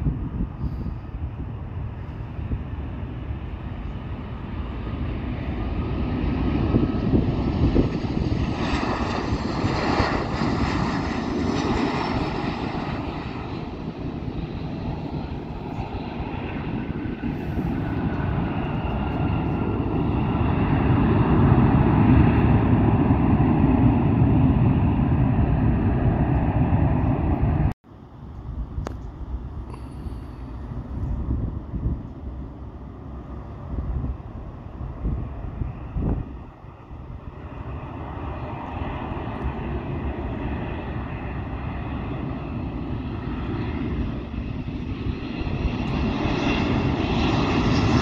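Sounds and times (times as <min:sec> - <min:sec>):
jet engines roaring overhead: 0:00.0 - 0:48.0
jet rolling out rumble: 0:00.0 - 0:48.0.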